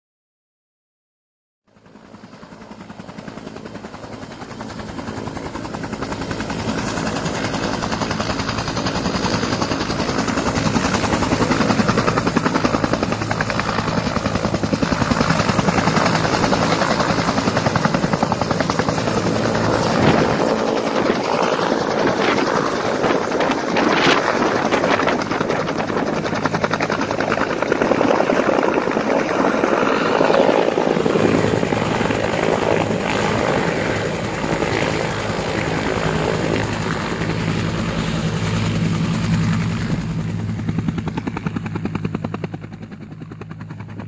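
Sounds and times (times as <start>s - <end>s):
helicopter rotor beating: 1.8s - 44.0s.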